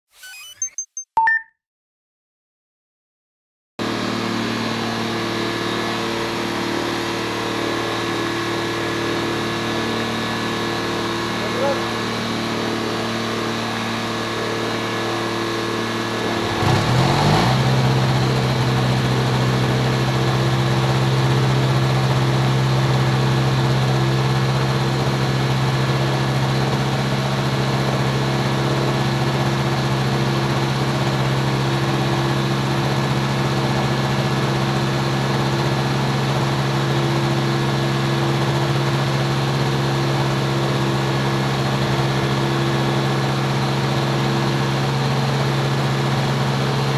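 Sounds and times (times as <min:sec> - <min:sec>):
microlight engine and propeller running: 0:03.8 - 0:46.9.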